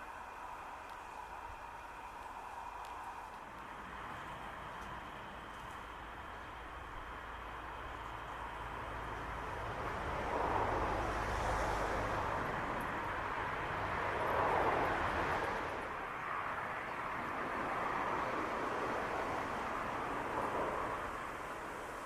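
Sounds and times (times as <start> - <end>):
car road noise: 0.4 - 22.0.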